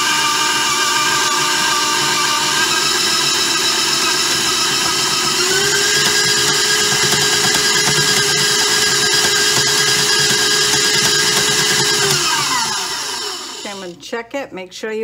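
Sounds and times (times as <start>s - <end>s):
stand mixer motor whining: 0.0s - 14.0s.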